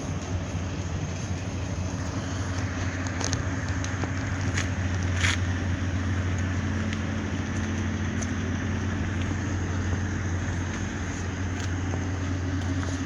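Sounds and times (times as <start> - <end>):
ship engine drone: 0.0 - 13.0.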